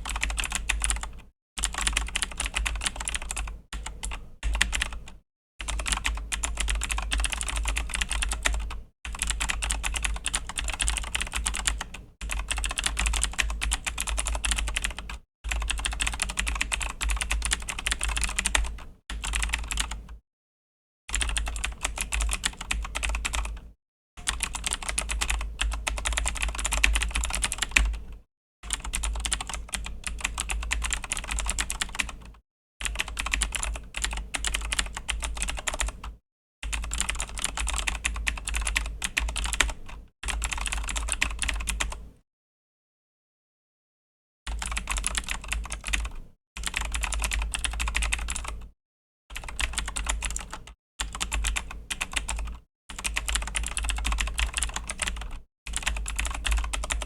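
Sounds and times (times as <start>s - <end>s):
mechanical keyboard typing: 0.0s - 20.2s, 21.1s - 28.1s, 28.7s - 42.0s, 44.5s - 48.7s, 49.4s - 57.0s.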